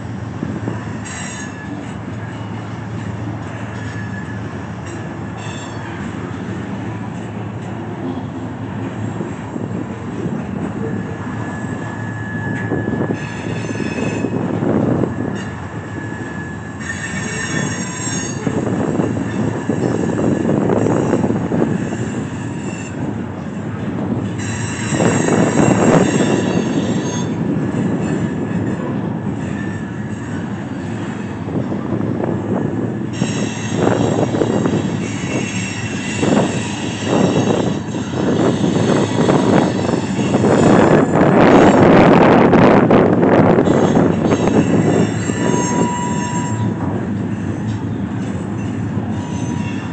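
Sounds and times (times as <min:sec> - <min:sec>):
freight train rolling on track: 0:00.0 - 0:49.9
train wheels squealing: 0:00.7 - 0:06.2, 0:10.8 - 0:23.6, 0:24.3 - 0:31.3, 0:32.5 - 0:42.4, 0:43.6 - 0:49.9.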